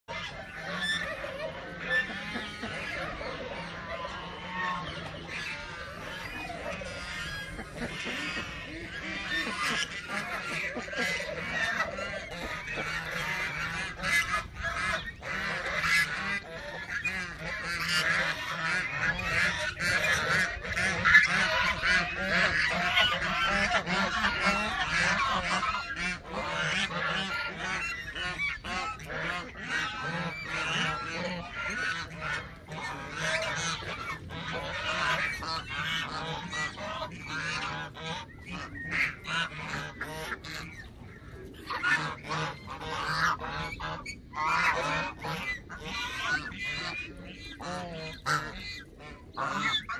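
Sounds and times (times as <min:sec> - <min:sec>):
geese honking: 0:00.1 - 0:49.9.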